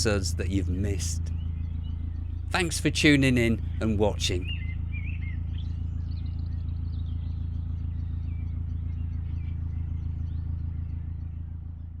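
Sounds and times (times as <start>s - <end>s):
low engine hum: 0.0s - 12.0s
small birds chirping: 0.0s - 12.0s.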